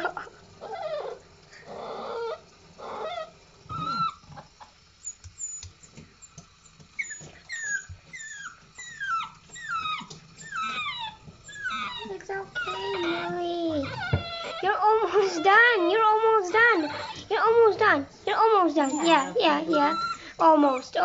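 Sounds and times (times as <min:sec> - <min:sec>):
puppy whimpering: 0:00.0 - 0:17.6, 0:18.6 - 0:21.0.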